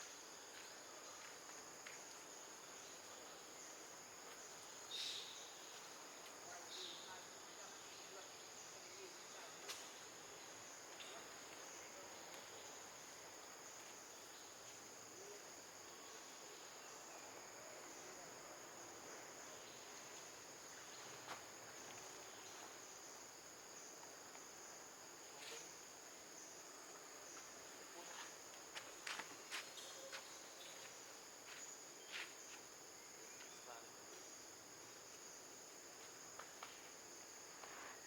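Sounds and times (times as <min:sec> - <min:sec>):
insect chorus drone: 0:00.0 - 0:38.0.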